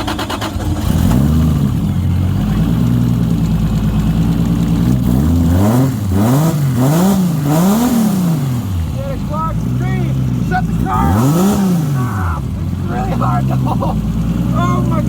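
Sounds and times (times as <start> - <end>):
car engine cranking: 0.0 - 15.0
car engine idling and revving: 0.0 - 15.0.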